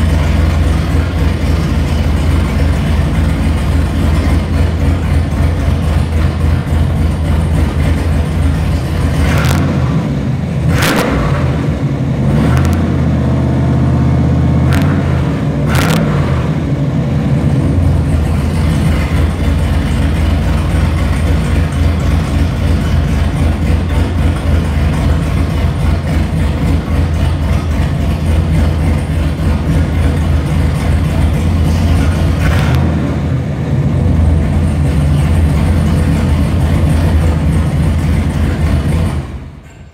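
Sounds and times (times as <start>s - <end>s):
car engine revving and idling: 0.0s - 39.8s.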